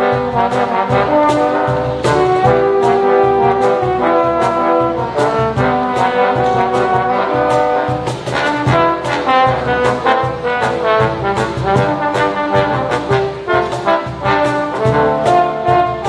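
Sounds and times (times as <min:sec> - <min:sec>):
trombones playing in harmony: 0:00.0 - 0:16.0.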